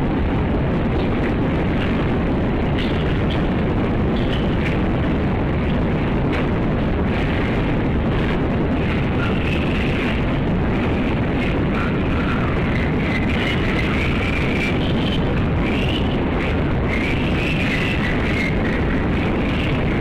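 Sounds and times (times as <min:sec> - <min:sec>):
loud rumbling noise: 0:00.0 - 0:20.0.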